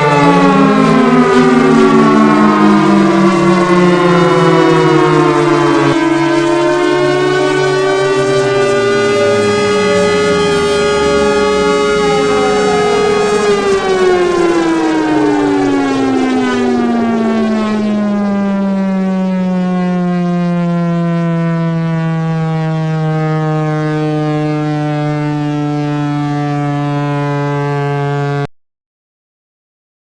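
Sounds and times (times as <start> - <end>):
siren winding down: 0.0 - 28.5.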